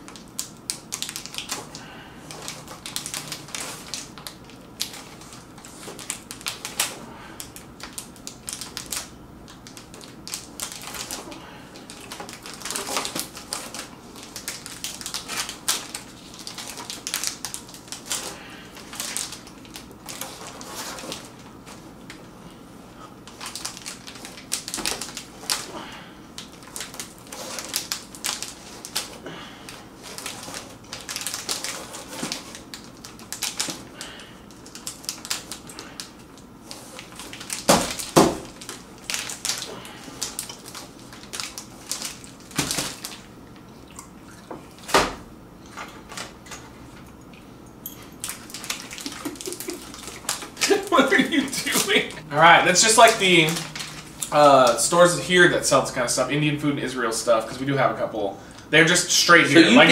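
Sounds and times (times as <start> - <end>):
box and plastic wrapping crinkling: 0.0 - 22.3, 23.2 - 43.7, 47.8 - 56.4.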